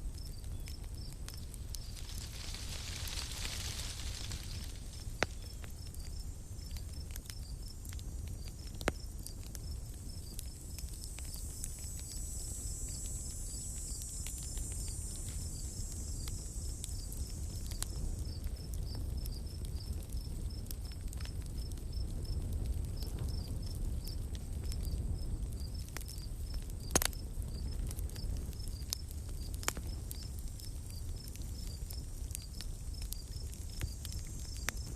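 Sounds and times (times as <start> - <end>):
campfire crackling and popping: 0.0 - 34.9
crickets chirping: 0.0 - 34.9.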